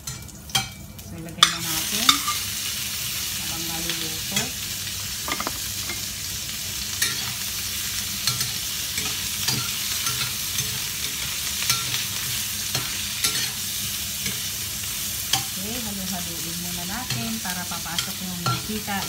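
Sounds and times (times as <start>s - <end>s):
duck sizzling in hot oil: 0.0s - 19.0s.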